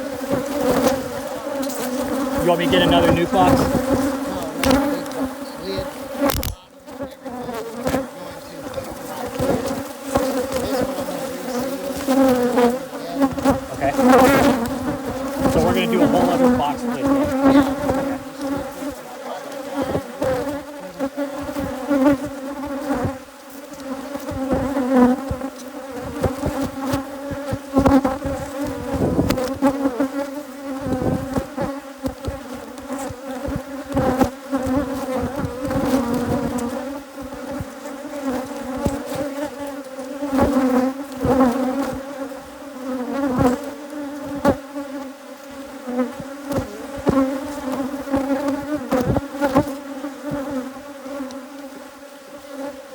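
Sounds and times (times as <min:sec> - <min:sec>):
honeybees buzzing: 0:00.0 - 0:52.9.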